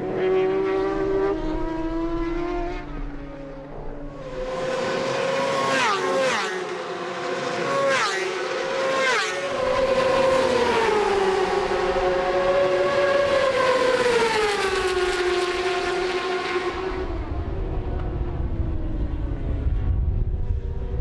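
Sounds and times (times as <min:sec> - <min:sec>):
racing motorcycle engine: 0:00.0 - 0:21.0.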